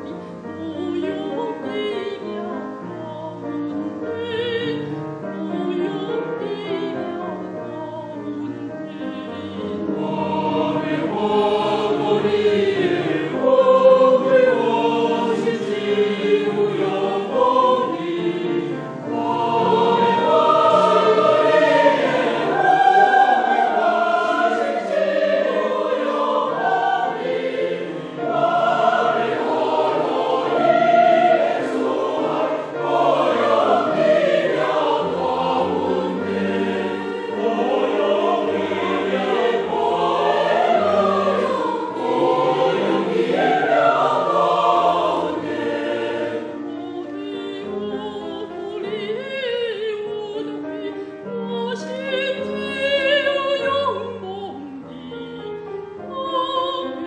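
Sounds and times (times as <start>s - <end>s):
mixed choir singing a hymn: 0.0s - 57.0s.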